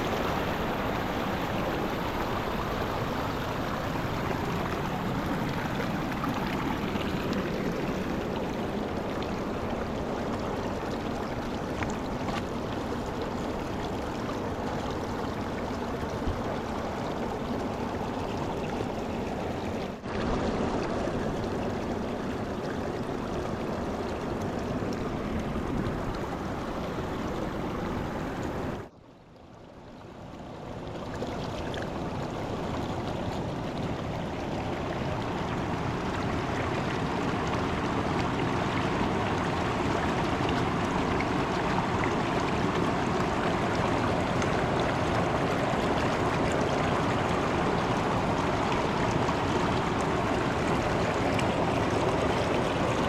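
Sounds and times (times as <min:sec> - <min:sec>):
mountain river rushing: 0:00.0 - 0:28.9, 0:30.2 - 0:53.0.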